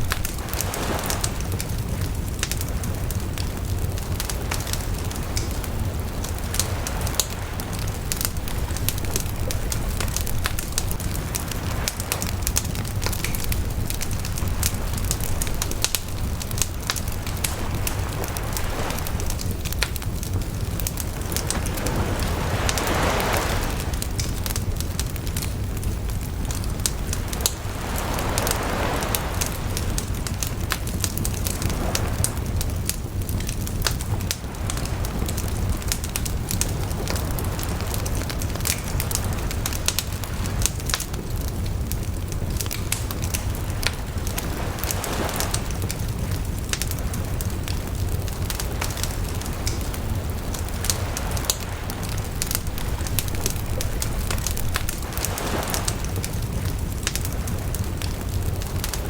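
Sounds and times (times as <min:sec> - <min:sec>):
bonfire crackling: 0:00.0 - 0:59.0
steady low rumble: 0:00.0 - 0:59.0.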